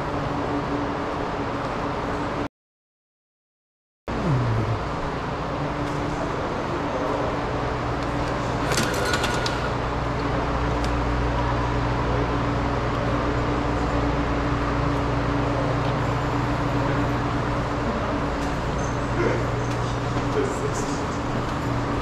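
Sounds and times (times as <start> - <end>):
low mechanical hum: 0.0 - 2.5, 4.1 - 22.0.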